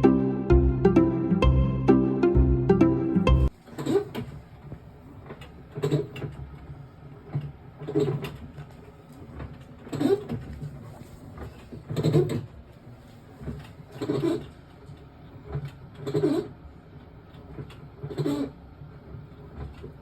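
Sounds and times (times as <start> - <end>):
abnormal washing machine noise: 3.4 - 20.0.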